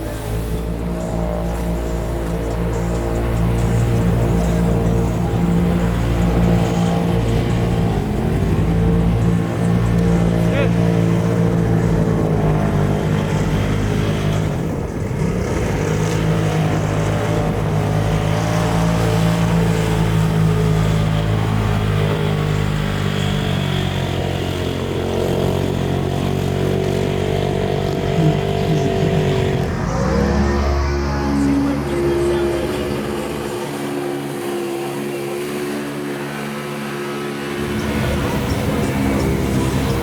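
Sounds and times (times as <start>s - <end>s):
utility vehicle engine running hard: 0.0s - 40.0s.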